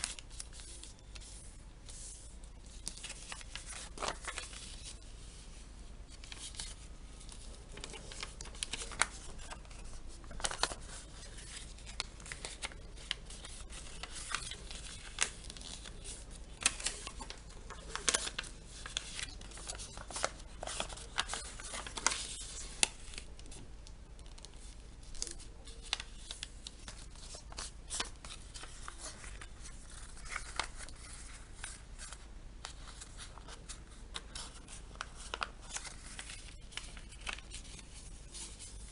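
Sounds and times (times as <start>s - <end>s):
paper rustling: 0.0s - 38.9s.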